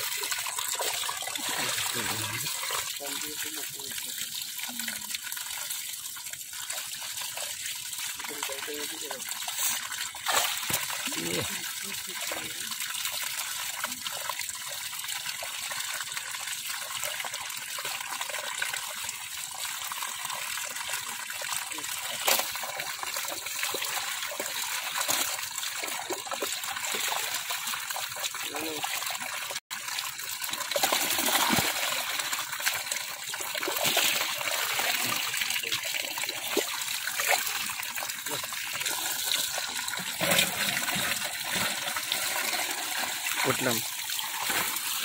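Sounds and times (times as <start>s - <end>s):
water pouring and splashing: 0.0s - 45.0s.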